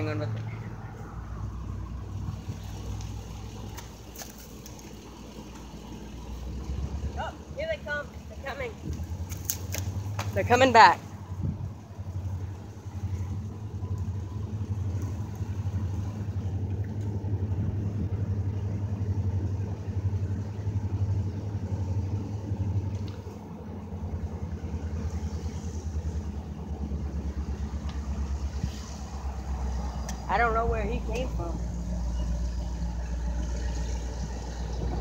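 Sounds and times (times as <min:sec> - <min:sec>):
diesel locomotive engine drone: 0:00.0 - 0:35.0.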